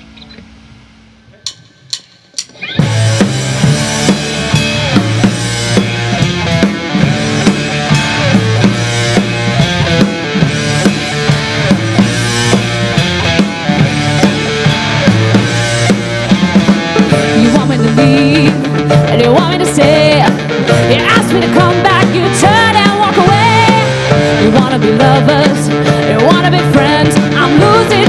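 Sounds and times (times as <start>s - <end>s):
rock band playing: 1.3s - 28.0s.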